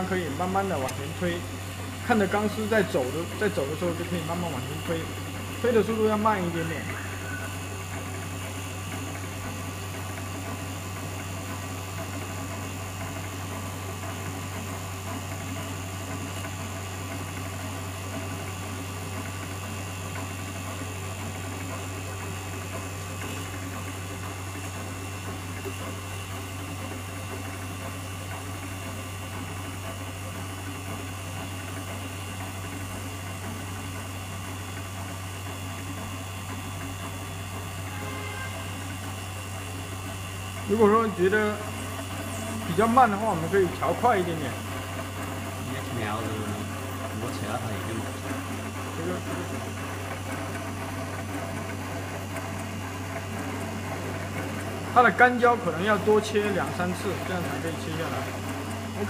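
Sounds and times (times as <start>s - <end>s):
machine running with low hum: 0.0s - 59.0s.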